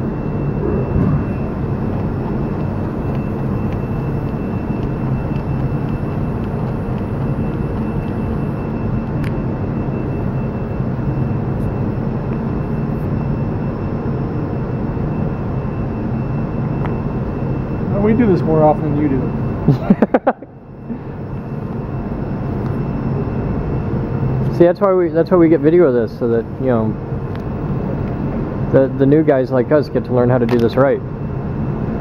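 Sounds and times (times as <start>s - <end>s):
mechanical drone with whine: 0.0s - 32.0s.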